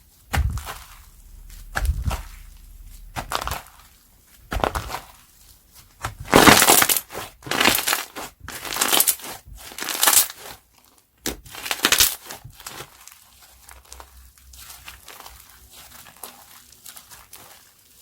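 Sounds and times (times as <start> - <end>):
crunchy slime crackling and popping: 0.1 - 18.0.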